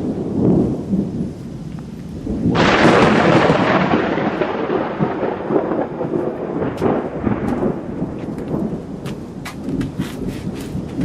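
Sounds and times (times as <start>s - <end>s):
sharp ticks of rain striking: 0.0s - 11.0s
steady rain: 0.0s - 11.0s
thunder rumbling: 0.0s - 11.0s.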